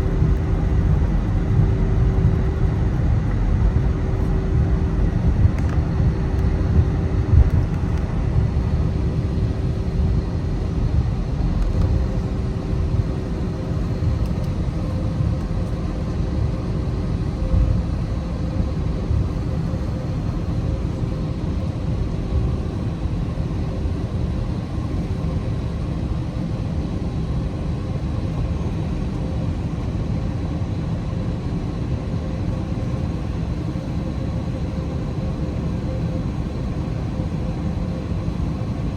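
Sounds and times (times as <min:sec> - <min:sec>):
faint constant hum tone: 0:00.0 - 0:38.9
low rumble of jet engines: 0:00.0 - 0:38.9.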